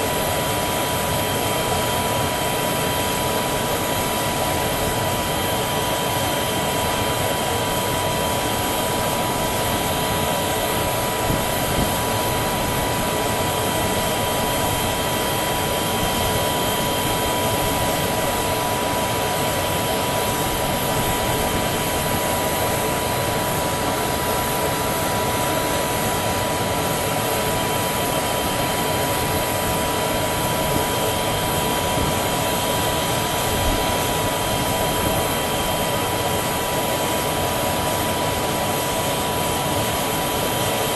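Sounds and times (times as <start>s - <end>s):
aircraft turbine running: 0.0s - 40.9s.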